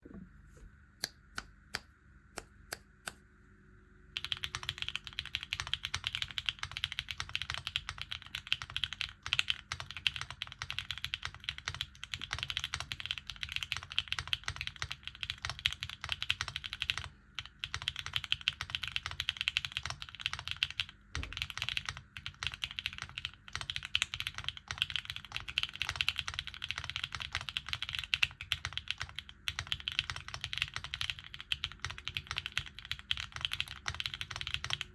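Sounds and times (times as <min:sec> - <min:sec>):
mechanical keyboard typing: 0:04.2 - 0:34.9.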